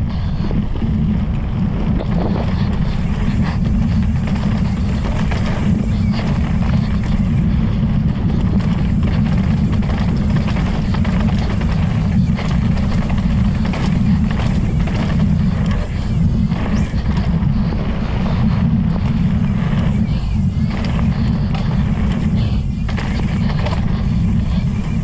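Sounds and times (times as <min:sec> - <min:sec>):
bike clicks and rattles: 0:00.0 - 0:25.0
tyres rumbling over dirt: 0:00.0 - 0:25.0
wind buffeting microphone: 0:00.0 - 0:25.0.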